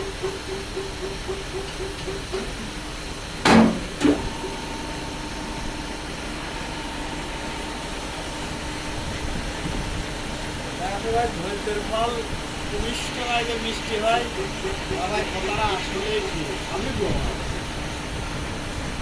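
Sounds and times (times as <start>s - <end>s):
shop machine humming: 0.0s - 19.0s.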